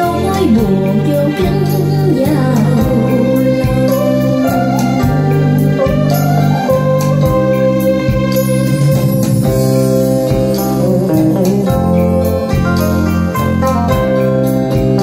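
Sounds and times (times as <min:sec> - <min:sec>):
music with bass beat and guitar: 0:00.0 - 0:15.0.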